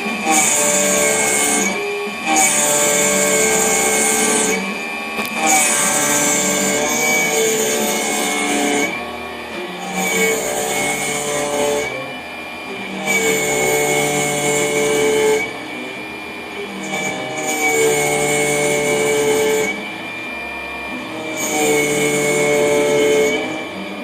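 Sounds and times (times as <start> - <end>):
milling machine cutting noise: 0.0 - 24.0
milling spindle whine: 0.0 - 24.0.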